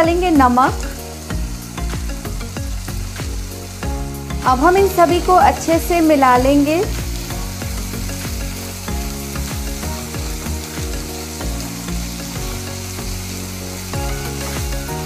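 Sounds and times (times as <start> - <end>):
background music: 0.0 - 15.0
lentils sizzling in oil: 0.0 - 15.0.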